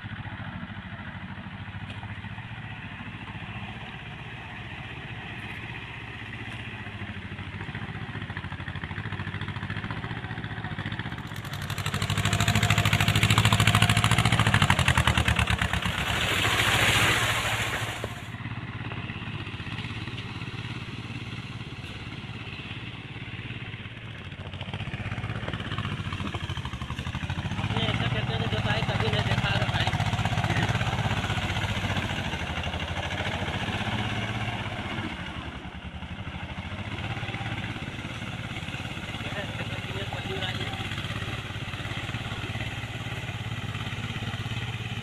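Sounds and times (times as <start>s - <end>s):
tractor diesel engine tilling: 0.0s - 45.0s.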